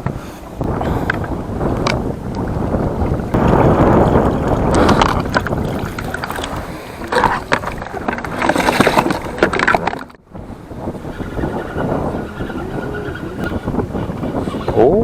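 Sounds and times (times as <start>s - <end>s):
water splashing and sloshing: 0.0s - 14.8s
wind buffeting microphone: 0.0s - 15.0s.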